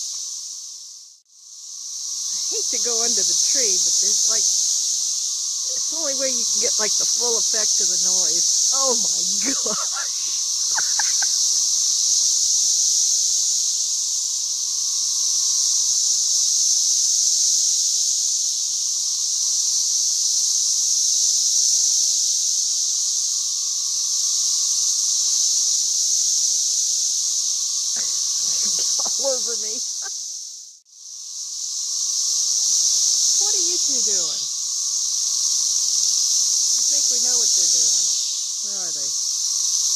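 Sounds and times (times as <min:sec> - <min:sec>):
cicadas high-pitched whine: 0:00.0 - 0:39.9.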